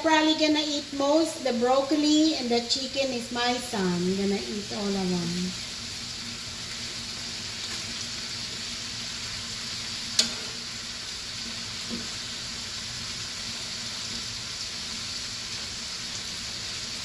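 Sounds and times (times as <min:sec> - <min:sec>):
food sizzling in pan: 0:00.0 - 0:17.0.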